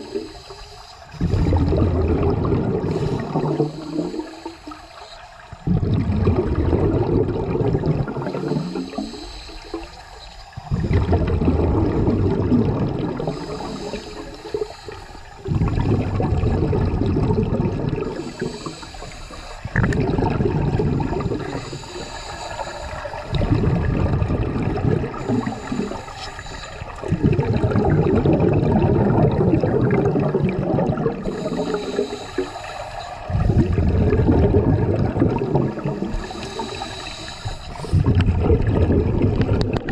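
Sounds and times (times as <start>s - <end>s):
underwater exhaust bubbles: 0.0s - 39.9s.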